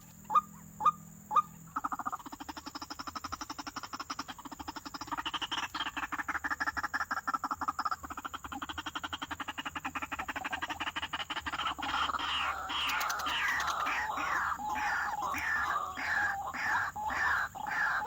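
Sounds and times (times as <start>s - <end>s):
bird squawking: 0.3s - 18.0s.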